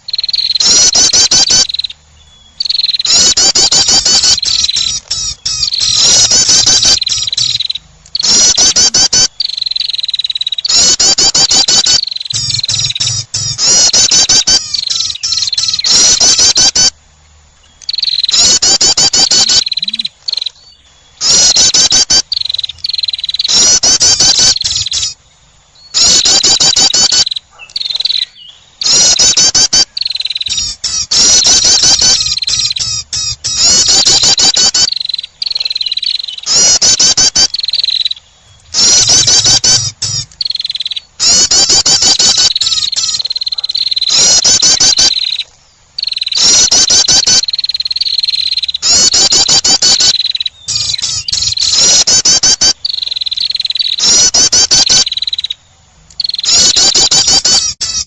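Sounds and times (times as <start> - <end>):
bird high chattering calls: 0.0 - 17.0, 17.6 - 58.0.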